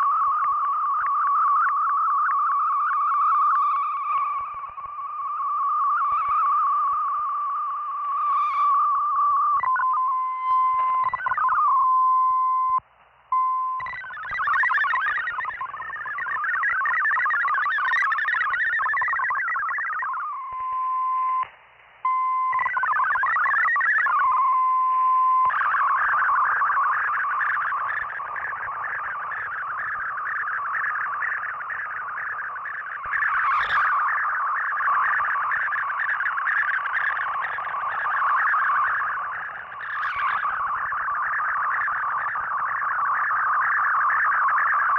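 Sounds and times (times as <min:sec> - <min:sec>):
radio data transmission tones: 0:00.0 - 0:44.9.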